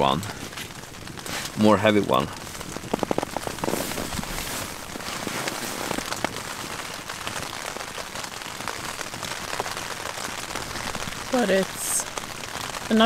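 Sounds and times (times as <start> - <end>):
rain on tent fabric: 0.0 - 13.0.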